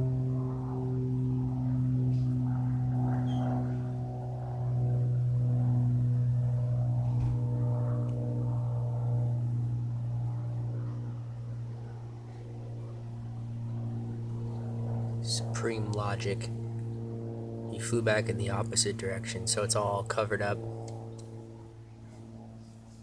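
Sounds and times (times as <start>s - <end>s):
propeller plane engine droning: 0.0s - 23.0s.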